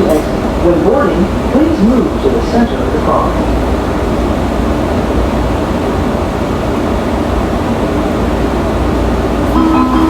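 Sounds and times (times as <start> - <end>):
railcar equipment rumble and hiss: 0.0 - 10.0.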